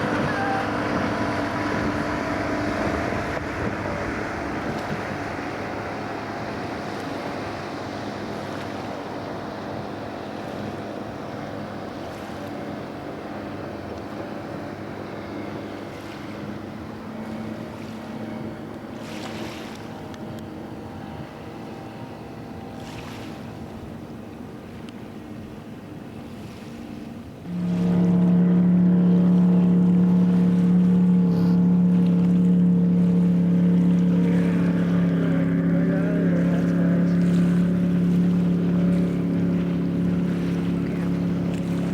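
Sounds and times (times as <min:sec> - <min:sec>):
boat engine droning: 0:00.0 - 0:41.9
water noise: 0:00.0 - 0:41.9
wind: 0:00.0 - 0:41.9.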